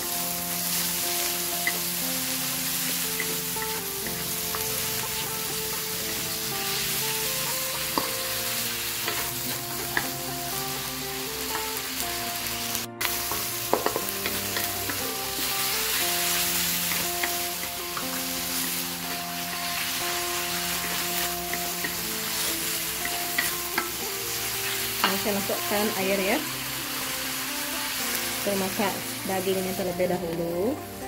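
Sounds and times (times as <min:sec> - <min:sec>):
food sizzling in hot oil: 0:00.0 - 0:31.0
soft background music: 0:00.0 - 0:31.0.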